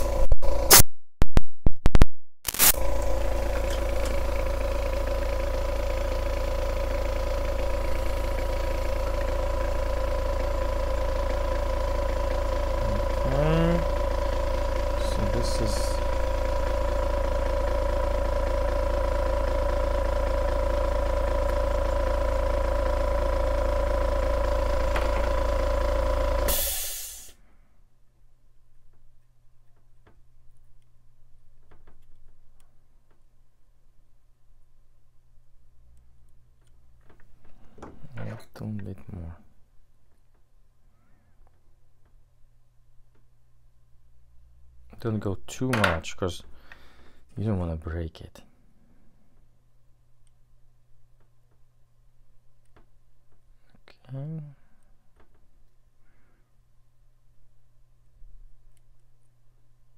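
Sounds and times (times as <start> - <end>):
electrical hum: 0.0 - 0.9, 1.8 - 59.9.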